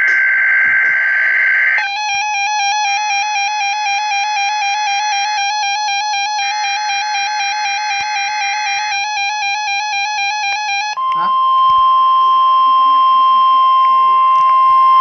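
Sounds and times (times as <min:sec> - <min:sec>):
two-tone electronic alert tone: 0:01.8 - 0:15.0.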